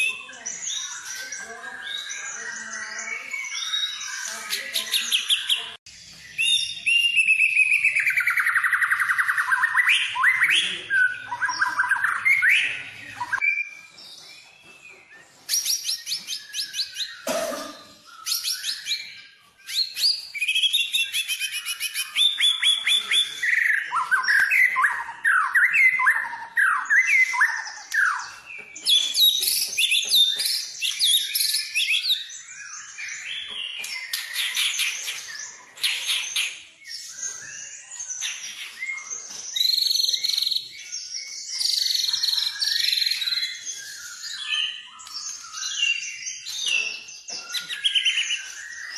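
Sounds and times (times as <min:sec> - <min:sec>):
songbird singing trills: 0:00.0 - 0:48.9.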